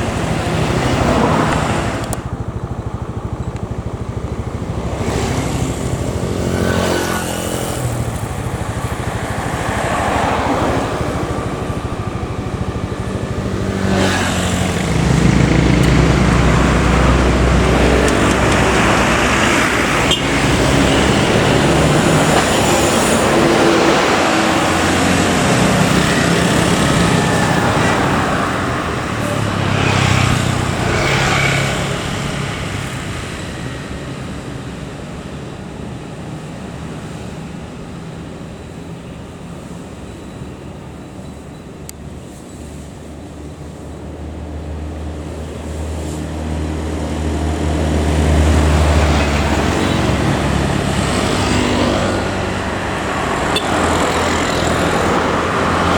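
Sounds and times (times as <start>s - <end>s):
heavy diesel vehicle running: 0.0s - 55.9s
road and traffic noise: 0.0s - 55.9s.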